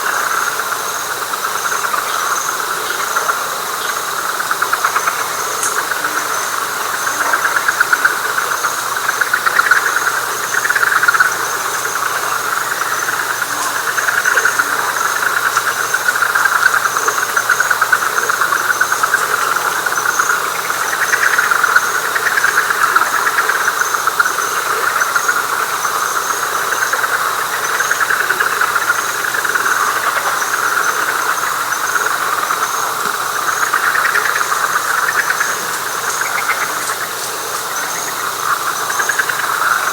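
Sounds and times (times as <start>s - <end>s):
frogs trilling: 0.0s - 39.9s.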